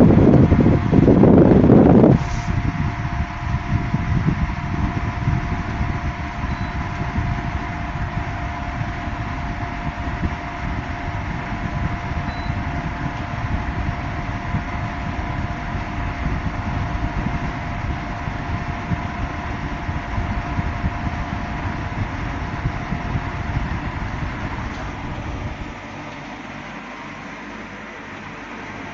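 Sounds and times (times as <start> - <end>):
low rumble: 0.0 - 26.0
air conditioner fan rush: 0.0 - 28.9
mechanical hum: 0.0 - 28.9.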